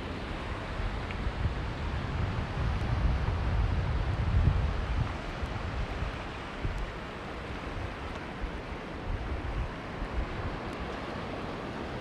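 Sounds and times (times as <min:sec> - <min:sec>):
surf washing over rocky shore: 0:00.0 - 0:12.0
wind buffeting microphone: 0:00.2 - 0:12.0.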